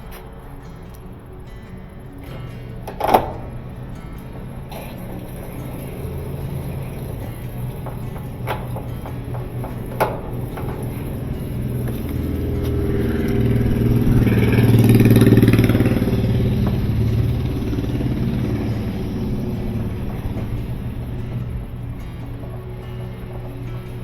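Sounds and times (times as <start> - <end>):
washing machine motor humming: 0.0 - 24.0.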